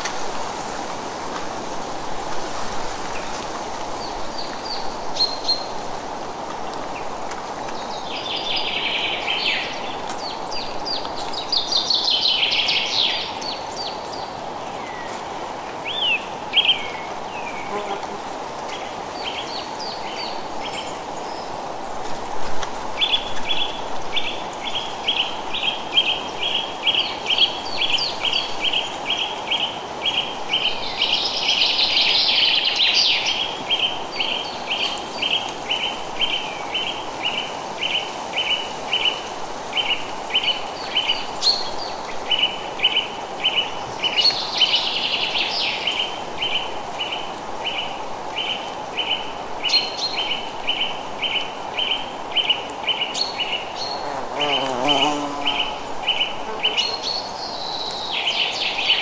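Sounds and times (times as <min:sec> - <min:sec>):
wind in trees: 0:00.0 - 0:59.0.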